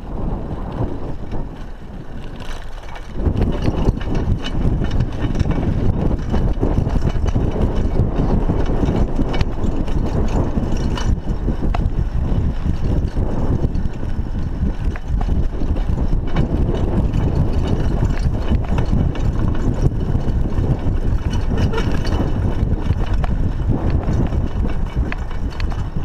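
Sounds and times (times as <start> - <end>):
bicycle tyres on dirt: 0.0 - 26.0
bike clicks and rattles: 0.0 - 26.0
wind on microphone: 0.0 - 26.0.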